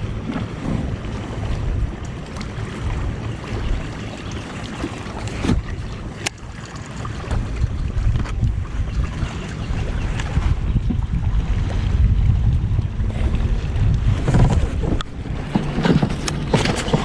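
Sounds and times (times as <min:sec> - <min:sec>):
water lapping against kayak hull: 0:00.0 - 0:17.0
wind buffeting microphone: 0:00.0 - 0:17.0.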